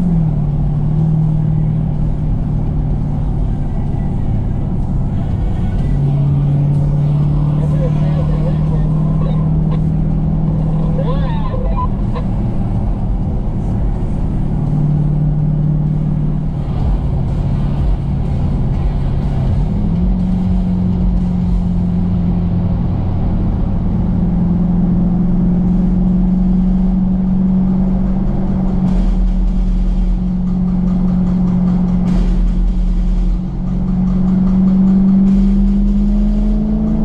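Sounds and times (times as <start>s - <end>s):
car engine droning: 0.0s - 37.0s.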